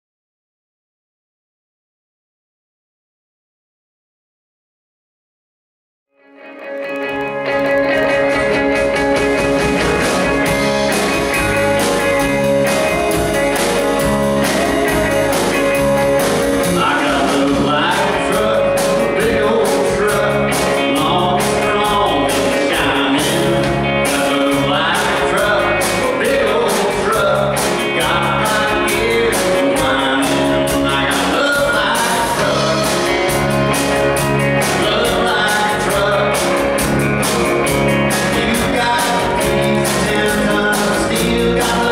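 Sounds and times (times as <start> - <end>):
country-rock band playing: 6.2 - 41.9
person singing: 6.6 - 41.9.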